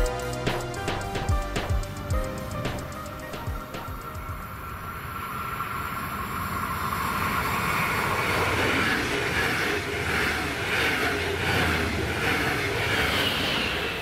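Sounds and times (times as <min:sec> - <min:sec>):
train passing at speed: 0:00.0 - 0:14.0
wheels rumbling on rail: 0:02.5 - 0:14.0.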